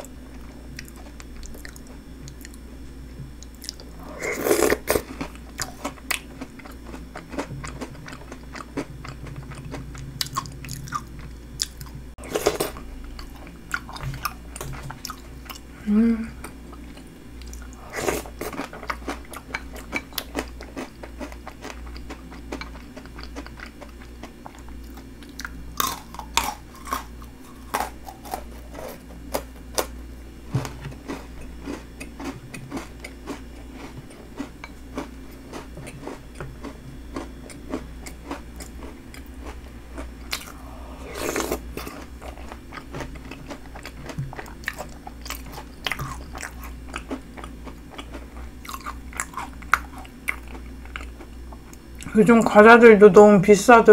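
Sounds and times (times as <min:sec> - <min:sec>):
chewing and crunching snack: 0:00.3 - 0:02.7, 0:03.4 - 0:15.7, 0:16.4 - 0:30.0, 0:30.6 - 0:52.2.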